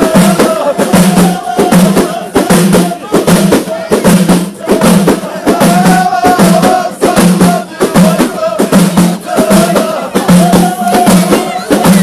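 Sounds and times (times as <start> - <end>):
frame drums beating: 0.0 - 12.0
group of voices chanting: 0.0 - 12.0.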